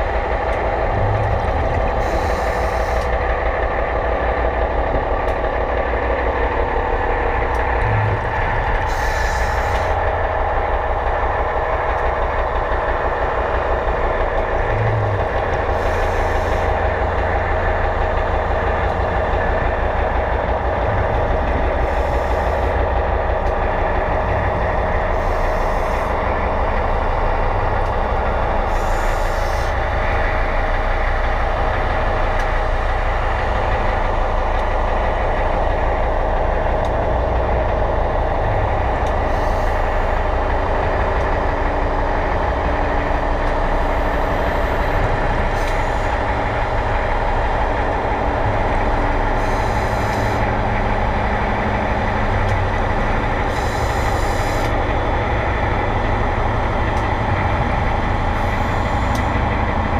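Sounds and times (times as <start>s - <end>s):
underwater tool humming and whining: 0.0s - 59.9s.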